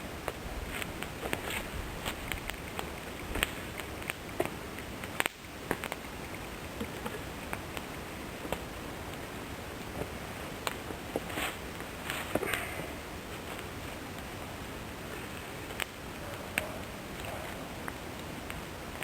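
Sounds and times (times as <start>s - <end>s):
steady hiss of burning wood: 0.0s - 19.0s
campfire crackling and popping: 0.1s - 19.0s.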